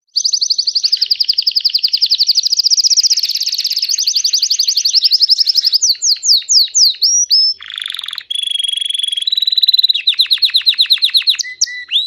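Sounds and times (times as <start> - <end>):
canary trilling: 0.1 - 12.0.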